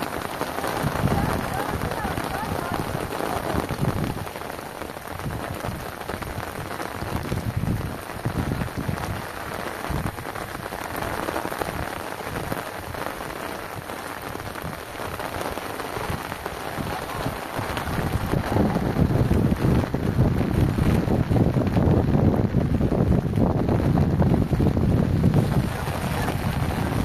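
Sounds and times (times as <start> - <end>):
heavy rain on ground and puddles: 0.0 - 27.0.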